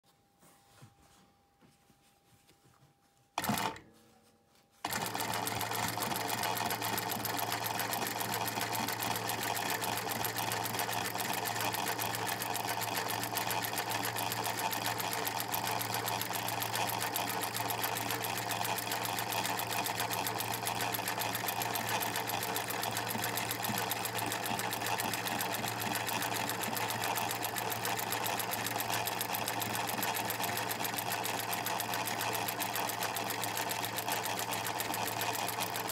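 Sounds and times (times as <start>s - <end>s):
embroidery machine needle stitching: 3.4s - 3.8s, 4.8s - 35.9s
sewing machine motor hum: 3.4s - 3.8s, 4.8s - 35.9s.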